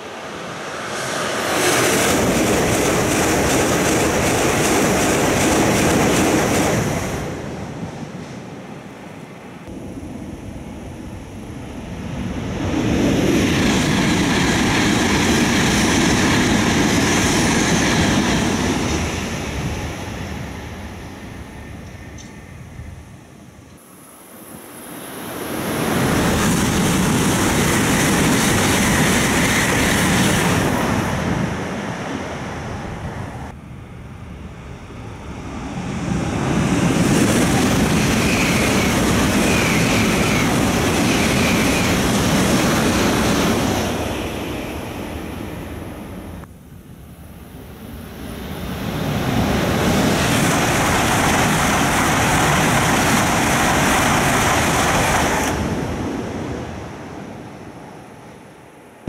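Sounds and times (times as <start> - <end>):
high-speed trains passing: 0.0 - 59.0.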